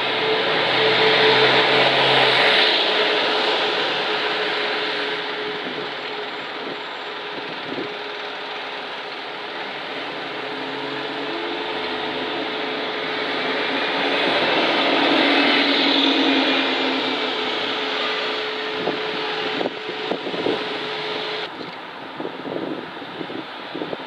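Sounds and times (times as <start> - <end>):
bus driving past: 0.0 - 23.9
traffic hum: 0.0 - 24.0.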